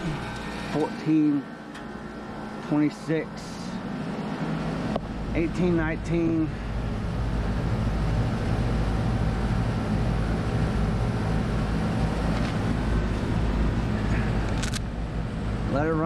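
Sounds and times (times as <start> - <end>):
air conditioning unit humming: 0.0 - 16.0.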